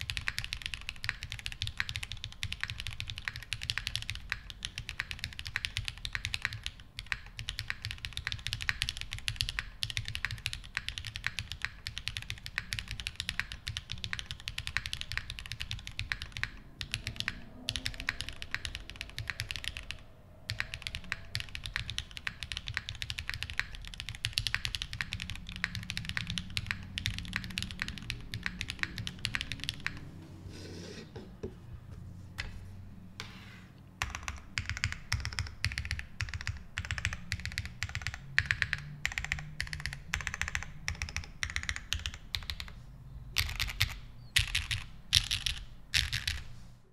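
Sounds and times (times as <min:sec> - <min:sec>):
mechanical keyboard typing: 0:00.0 - 0:30.1, 0:34.0 - 0:42.8, 0:43.4 - 0:46.5.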